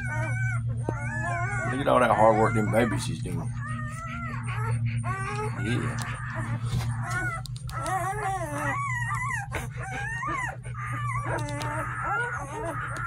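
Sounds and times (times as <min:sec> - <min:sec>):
low steady hum: 0:00.0 - 0:13.0
puppies squeaking and whimpering: 0:00.0 - 0:13.0.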